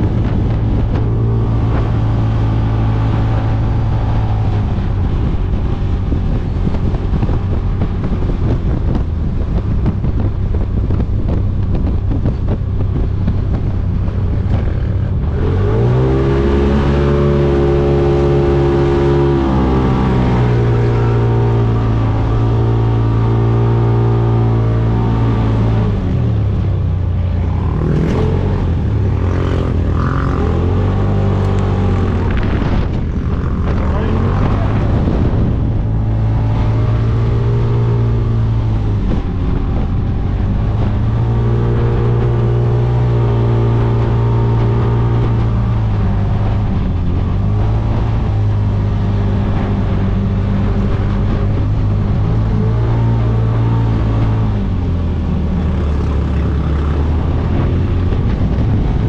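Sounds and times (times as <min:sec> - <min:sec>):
engine running hard: 0:00.0 - 0:59.0
wind noise: 0:00.0 - 0:59.0.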